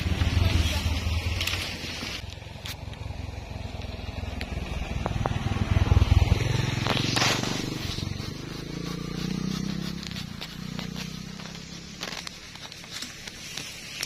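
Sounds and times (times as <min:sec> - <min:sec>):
leaves and brush rustling: 0:00.0 - 0:14.0.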